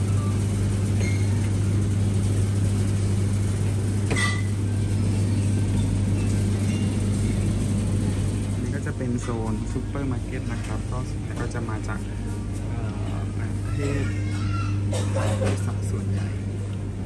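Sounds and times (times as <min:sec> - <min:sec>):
refrigerated cases and ventilation hum: 0:00.0 - 0:17.0.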